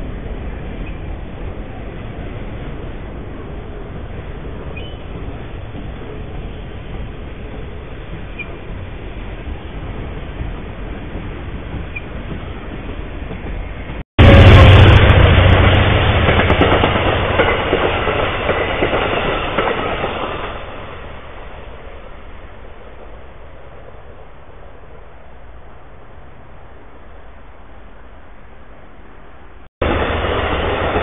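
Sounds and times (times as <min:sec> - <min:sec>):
passenger train coaches rolling past: 0:00.0 - 0:31.0
rail cars rumbling past: 0:00.0 - 0:31.0.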